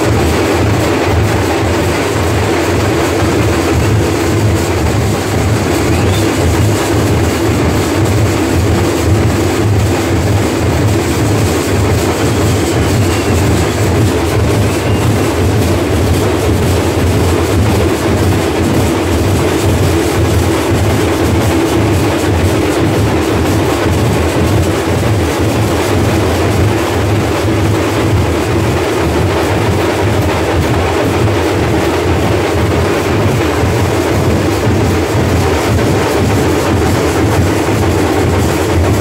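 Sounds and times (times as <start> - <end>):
rumbling din of packed crowd: 0.0 - 39.0.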